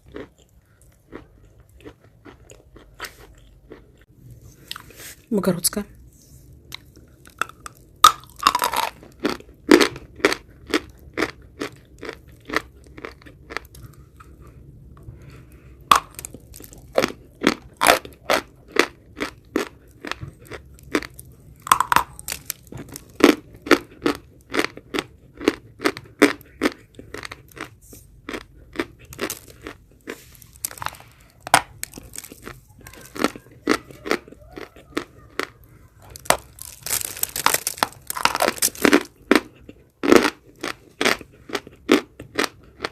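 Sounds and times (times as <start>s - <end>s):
chewing crunchy chalk: 0.0s - 5.2s, 6.4s - 42.9s.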